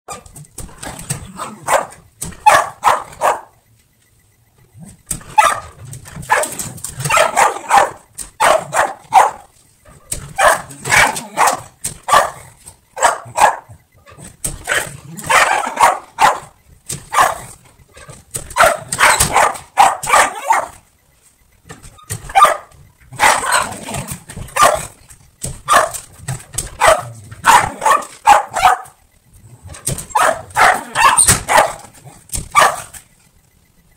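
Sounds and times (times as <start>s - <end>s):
dog barking excitedly: 0.1s - 3.6s, 5.1s - 20.8s, 22.0s - 29.0s, 29.7s - 33.0s.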